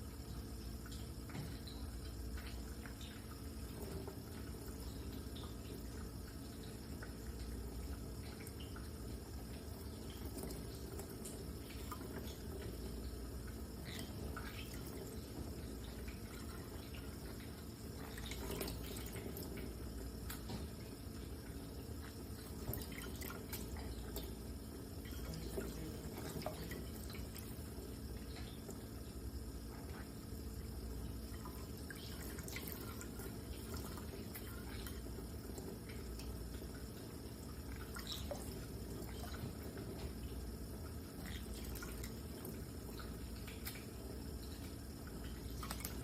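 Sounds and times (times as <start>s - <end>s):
water dripping and splashing: 0.0s - 46.0s.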